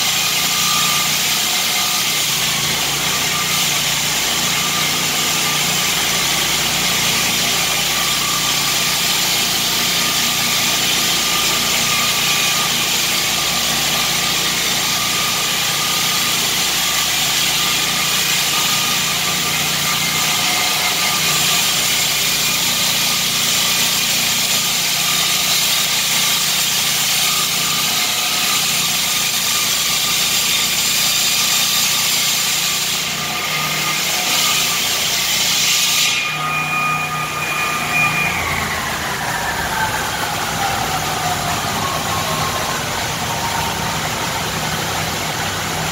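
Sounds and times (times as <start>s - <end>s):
concrete saw cutting concrete: 0.0s - 45.9s.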